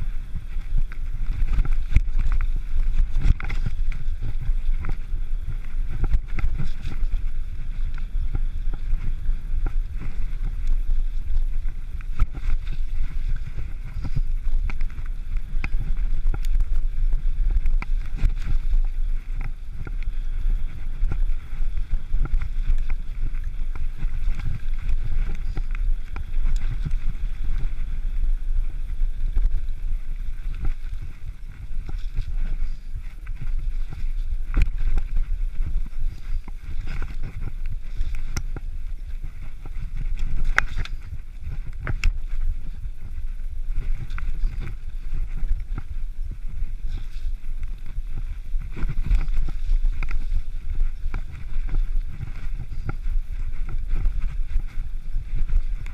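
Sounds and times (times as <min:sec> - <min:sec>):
wind and rolling noise: 0:00.0 - 0:55.9.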